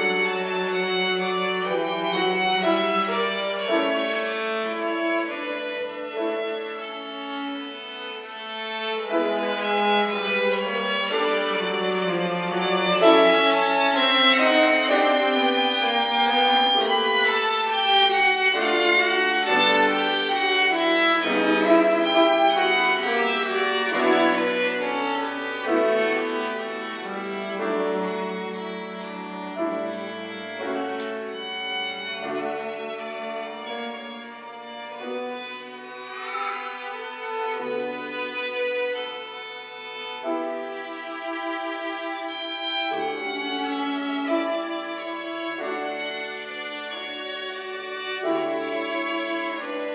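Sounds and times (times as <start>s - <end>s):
cello: 0.0s - 49.9s
piano: 0.0s - 49.9s
violin: 0.0s - 49.9s.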